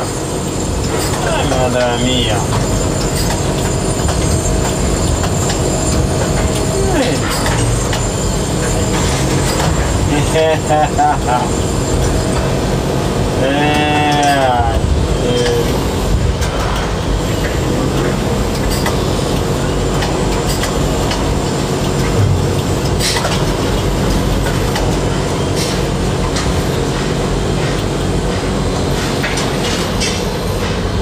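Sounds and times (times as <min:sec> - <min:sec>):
crane machinery rumbling drone: 0:00.0 - 0:31.0.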